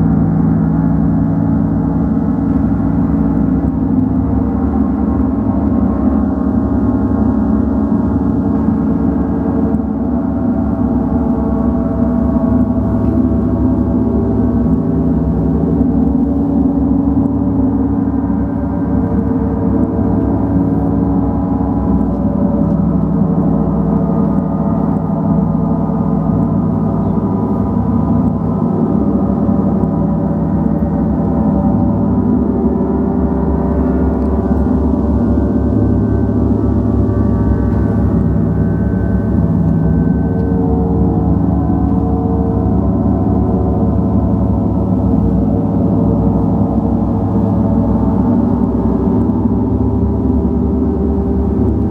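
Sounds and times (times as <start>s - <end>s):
gong ringing: 0.9s - 51.9s.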